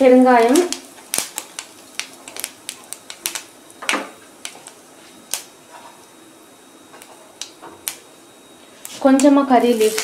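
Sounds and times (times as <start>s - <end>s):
mustard seeds popping in hot oil: 0.0s - 10.0s.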